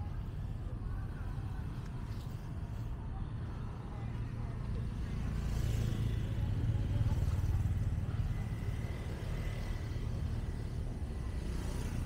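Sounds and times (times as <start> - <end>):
motorbike and street traffic rumble: 0.0 - 12.0.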